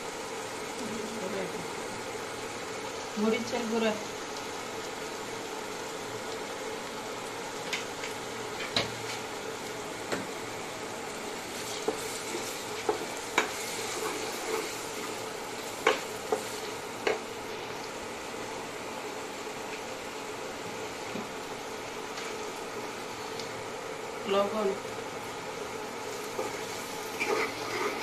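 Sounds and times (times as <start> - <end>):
onions sizzling in hot oil: 0.0 - 28.0.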